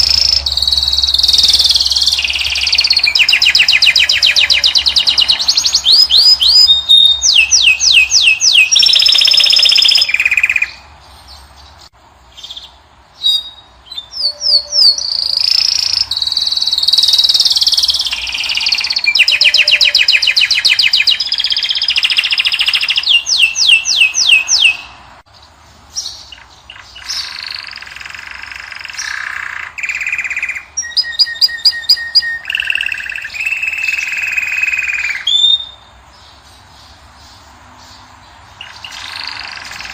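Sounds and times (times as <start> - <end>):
finch singing trills and chirps: 0.0 - 39.9.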